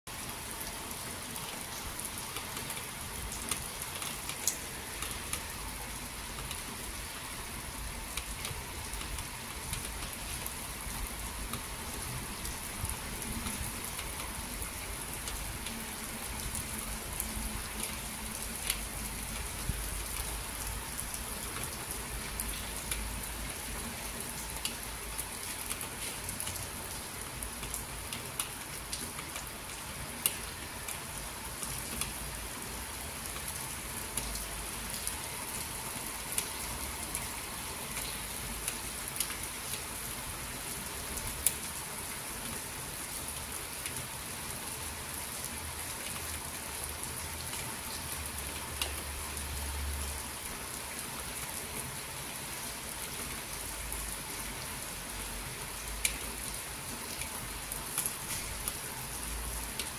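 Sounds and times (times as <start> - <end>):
rain falling on asphalt: 0.1 - 59.9.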